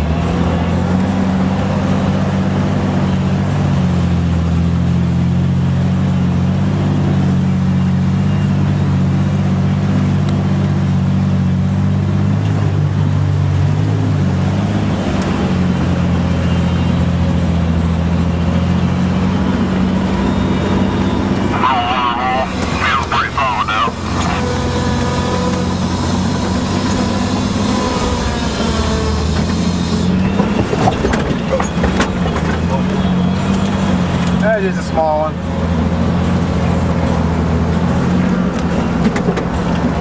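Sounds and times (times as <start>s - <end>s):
truck engine droning: 0.0s - 40.0s.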